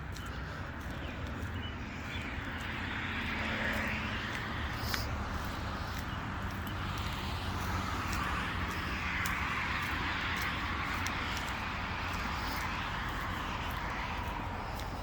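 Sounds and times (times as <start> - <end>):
vehicle passing: 0.0 - 15.0.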